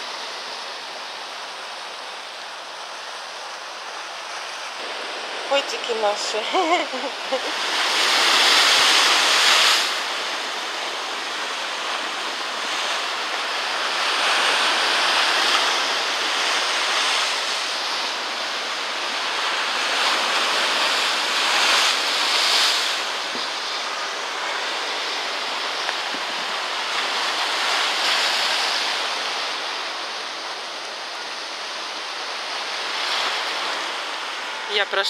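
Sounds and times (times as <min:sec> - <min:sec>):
surf breaking over rocks: 0:04.0 - 0:35.0.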